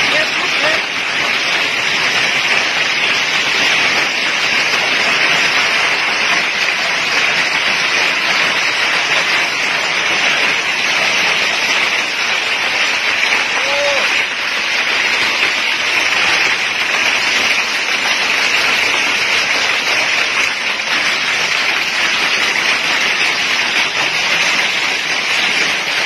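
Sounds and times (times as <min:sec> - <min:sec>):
heavy rain and hail: 0:00.0 - 0:26.0.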